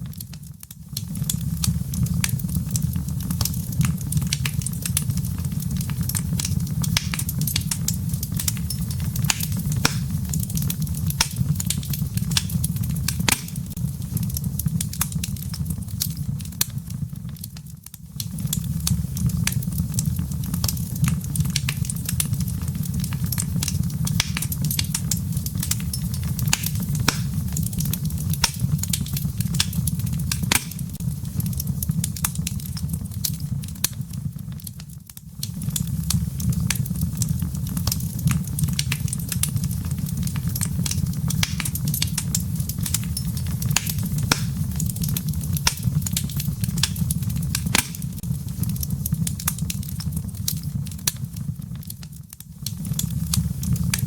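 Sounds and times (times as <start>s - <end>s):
fire pops and snaps: 0.0s - 54.0s
wood fire crackling: 0.0s - 54.0s.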